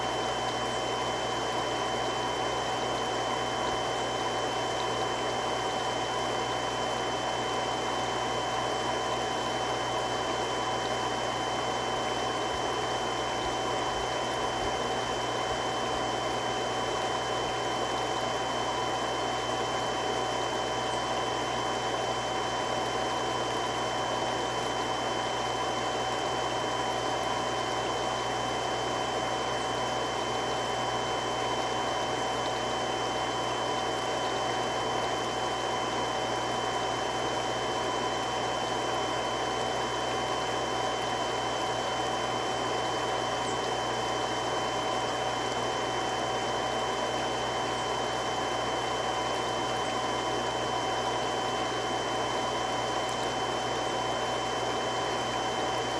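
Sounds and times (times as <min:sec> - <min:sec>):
water pump running: 0:00.0 - 0:55.9.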